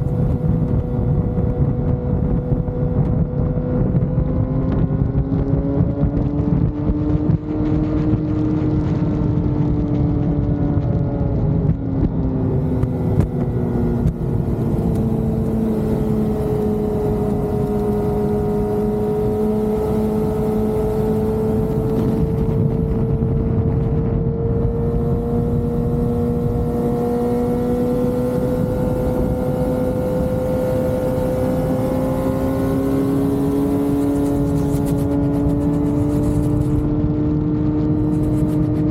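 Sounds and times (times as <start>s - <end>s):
road rumble: 0.0s - 38.9s
vehicle engine cruising: 0.0s - 38.9s
wind: 0.0s - 38.9s.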